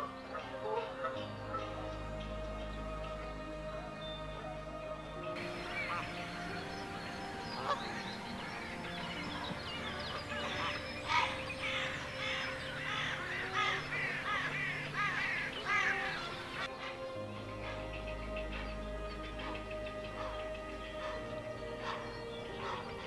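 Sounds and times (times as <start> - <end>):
background music: 0.0 - 23.0
flock of birds calling: 0.0 - 23.0.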